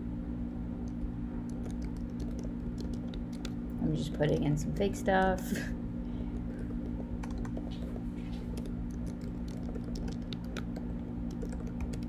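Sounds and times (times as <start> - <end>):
low hum: 0.0 - 12.0
keyboard typing: 0.8 - 4.9, 6.3 - 12.0.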